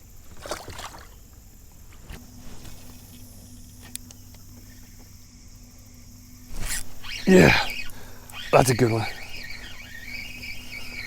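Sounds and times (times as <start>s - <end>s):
low steady hum: 0.0s - 11.0s
river hiss: 0.0s - 11.0s.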